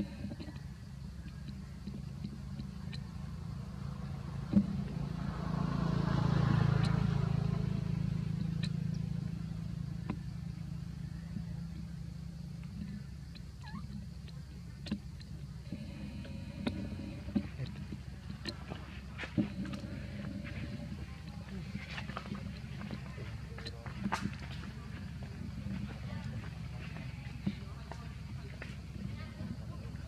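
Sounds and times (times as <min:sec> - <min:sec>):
motor vehicle passing: 0:00.0 - 0:30.0
steady low hum: 0:00.0 - 0:30.0.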